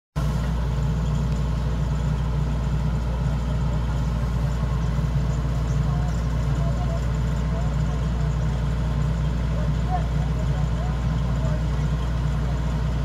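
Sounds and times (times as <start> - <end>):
diesel engine droning: 0.2 - 13.0.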